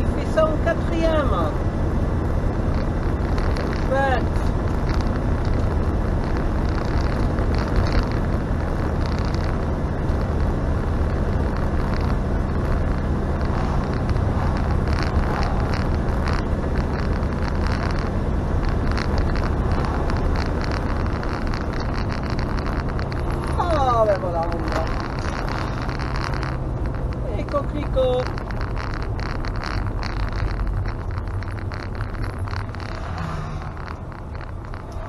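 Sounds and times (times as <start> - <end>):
engine drone inside vehicle: 0.0 - 35.0.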